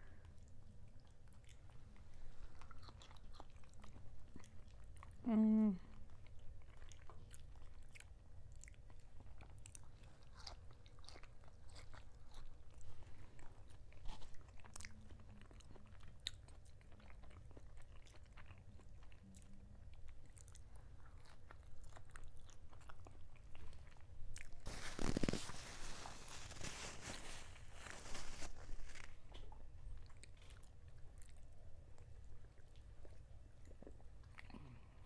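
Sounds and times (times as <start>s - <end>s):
chewing and biting food: 0.2s - 5.2s, 5.9s - 35.0s.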